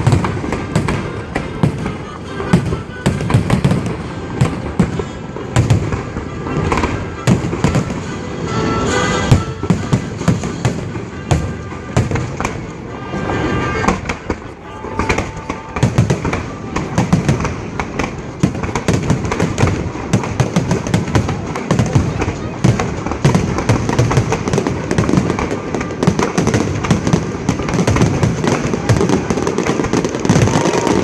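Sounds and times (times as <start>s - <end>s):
fireworks shells bursting: 0.0s - 31.0s.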